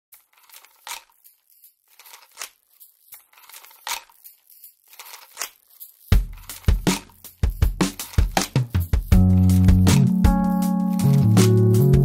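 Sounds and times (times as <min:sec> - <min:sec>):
paper or foil rustling: 0:00.1 - 0:10.0.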